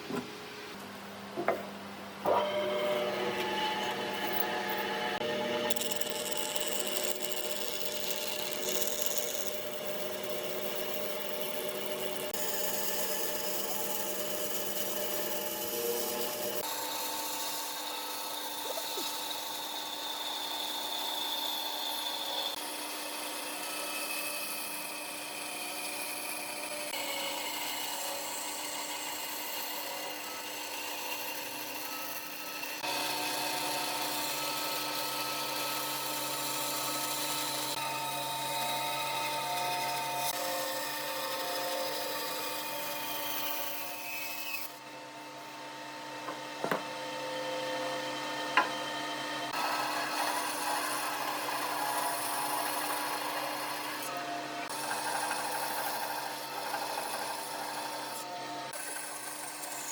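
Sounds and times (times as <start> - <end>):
woodworking machine humming: 0.0 - 59.9
cutter grinding against wood: 2.3 - 44.8, 49.5 - 59.9.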